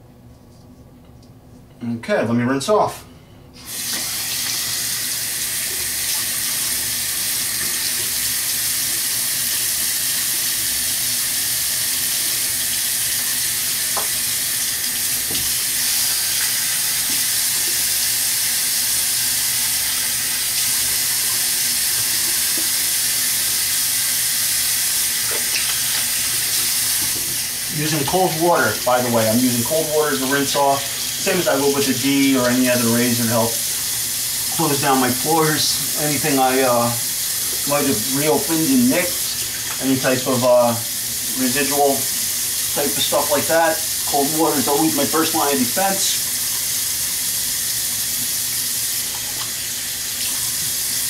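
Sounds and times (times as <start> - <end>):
tap running water: 3.6 - 51.0.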